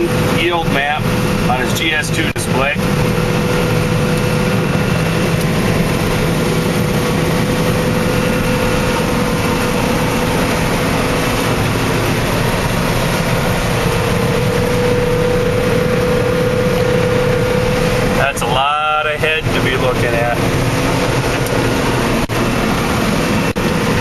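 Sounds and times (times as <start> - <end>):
combine harvester engine drone: 0.0 - 24.0
steady machinery whine: 0.0 - 24.0.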